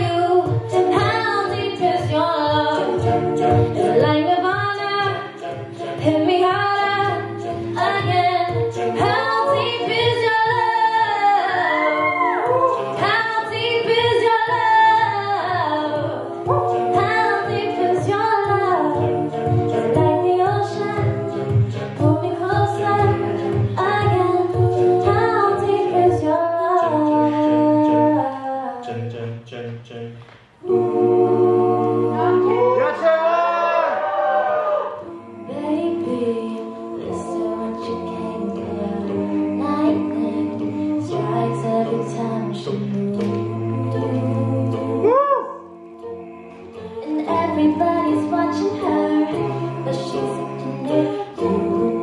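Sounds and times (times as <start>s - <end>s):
female lead voices singing: 0.0s - 29.2s, 30.4s - 52.0s
vocal percussion beat: 0.0s - 31.0s, 31.8s - 52.0s
backing voices singing: 0.0s - 52.0s.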